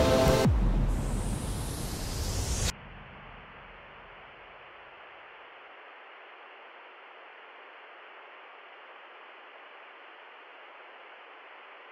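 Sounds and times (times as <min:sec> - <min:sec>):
steady hiss: 0:00.0 - 0:11.9.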